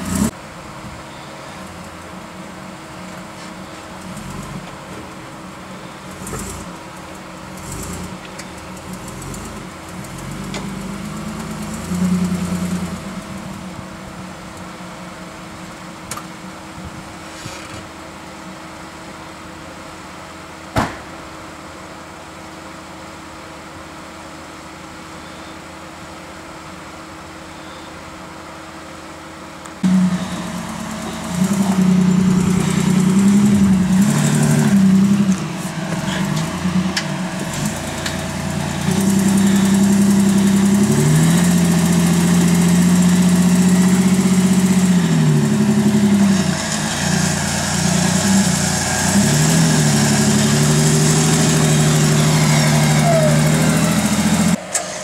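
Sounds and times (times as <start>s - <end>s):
engine running at low revs: 0.0s - 22.6s, 29.6s - 55.0s.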